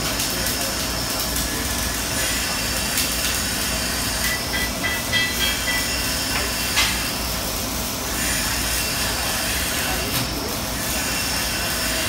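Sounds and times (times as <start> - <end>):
welding arc hissing: 0.0 - 12.0.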